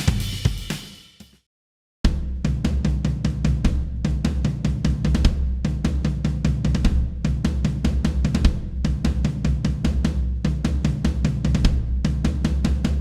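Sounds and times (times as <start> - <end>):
drum kit rock beat: 0.0 - 1.4, 2.1 - 13.0.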